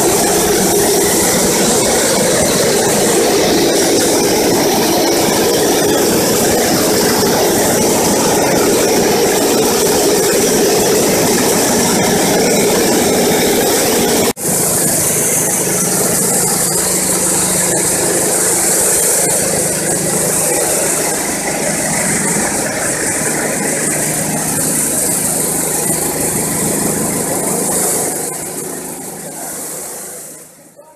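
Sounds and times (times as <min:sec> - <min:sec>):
sieving machine running: 0:00.0 - 0:30.8.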